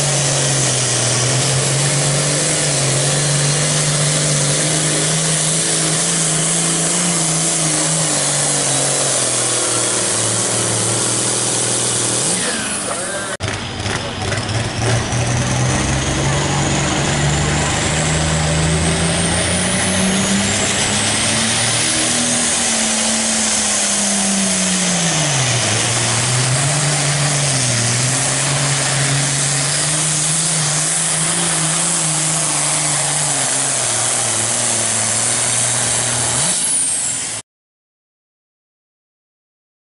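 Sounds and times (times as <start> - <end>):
diesel tractor engine under load: 0.0 - 37.4.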